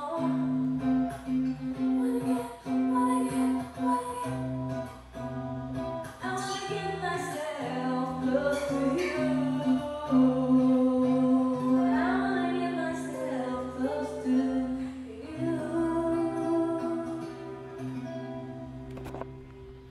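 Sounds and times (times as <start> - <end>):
person singing karaoke: 0.0 - 5.0, 6.1 - 18.2.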